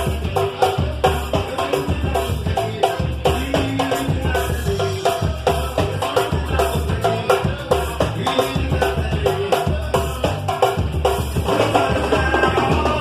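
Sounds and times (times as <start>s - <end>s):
drums and hand percussion: 0.0s - 13.0s.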